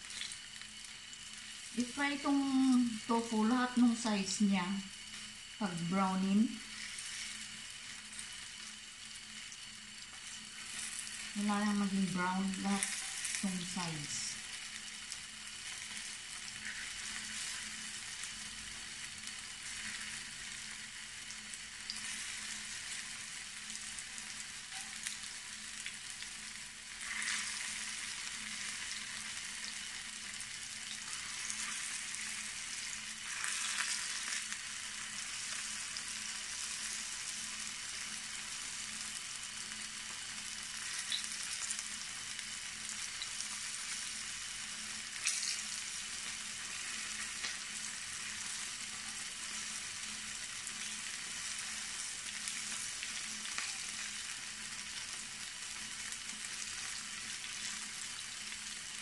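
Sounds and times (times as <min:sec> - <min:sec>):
tofu sizzling in hot oil: 0:00.0 - 0:59.0.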